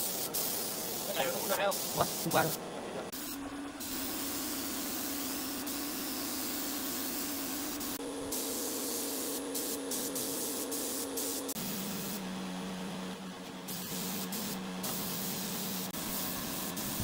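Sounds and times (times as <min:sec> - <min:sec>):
spray gun hissing: 0:00.0 - 0:12.2, 0:13.7 - 0:17.0.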